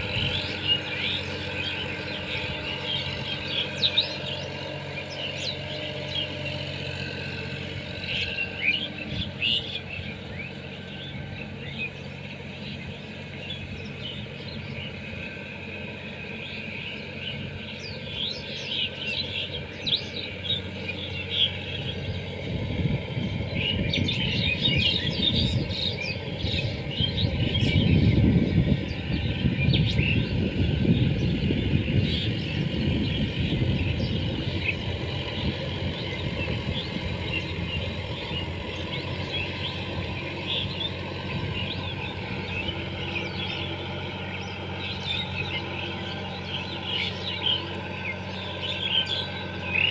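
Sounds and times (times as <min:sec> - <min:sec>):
birds chirping: 0:00.0 - 0:49.9
tractor diesel engine running: 0:00.0 - 0:49.9.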